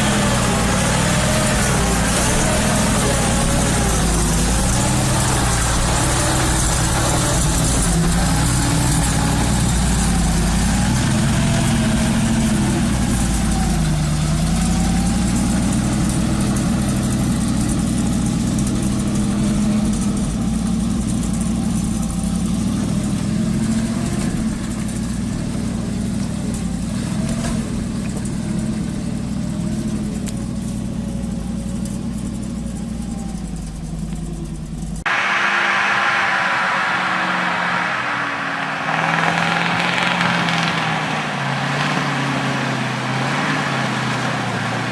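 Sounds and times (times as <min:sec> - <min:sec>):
truck engine running: 0:00.0 - 0:43.2.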